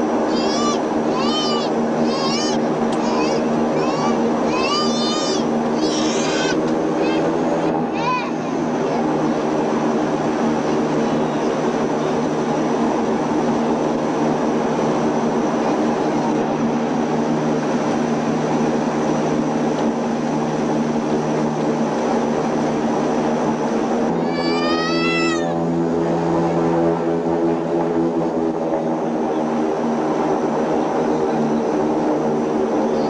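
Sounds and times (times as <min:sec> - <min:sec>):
turboprop cabin drone: 0:00.0 - 0:33.0.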